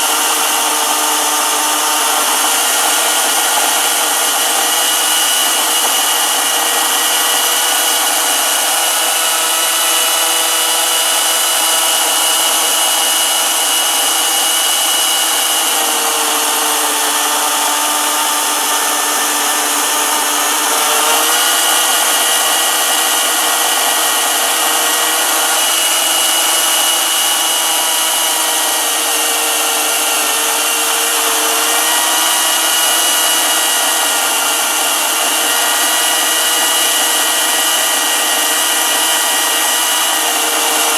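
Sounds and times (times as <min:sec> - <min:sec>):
electric chainsaw cutting wood: 0:00.0 - 0:40.9.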